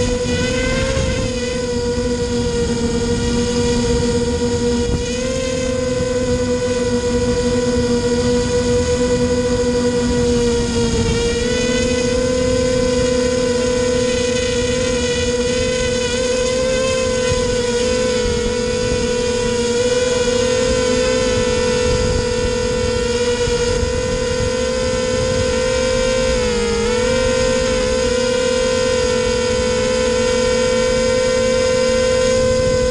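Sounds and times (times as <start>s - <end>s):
drone propellers whining: 0.0s - 32.9s.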